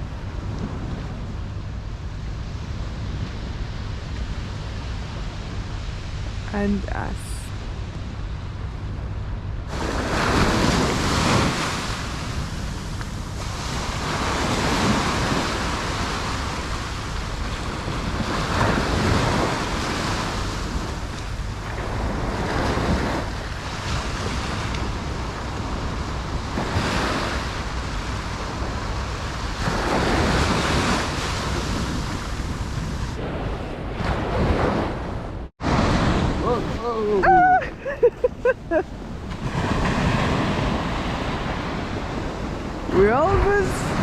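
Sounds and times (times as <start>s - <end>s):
low wind rumble on microphone: 0.0s - 44.0s
waves breaking on a shore: 0.0s - 44.0s.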